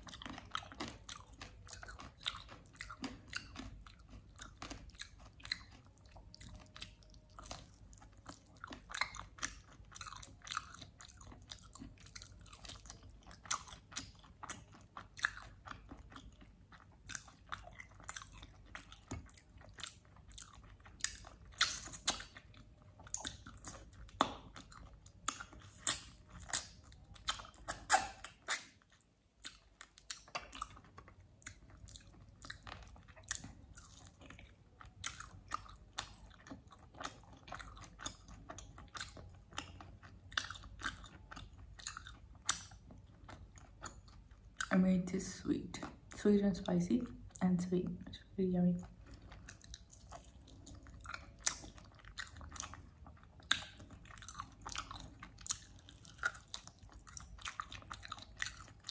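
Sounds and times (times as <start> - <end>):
chewing and biting meat: 0.0 - 44.7, 48.8 - 58.9.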